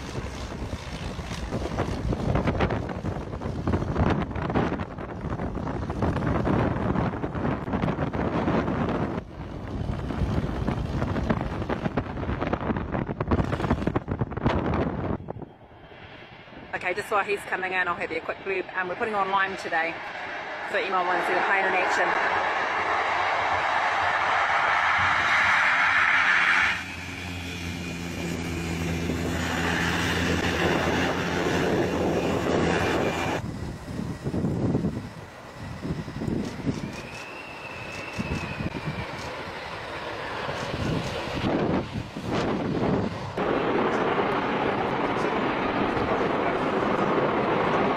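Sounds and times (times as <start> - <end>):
plane engine and propeller: 0.0 - 47.9
wind buffeting microphone: 0.0 - 47.9.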